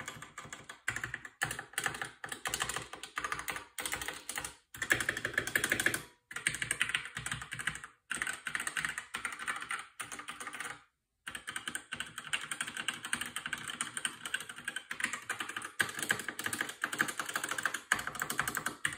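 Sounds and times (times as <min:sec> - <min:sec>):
fast typing on mechanical keyboard: 0:00.0 - 0:18.9.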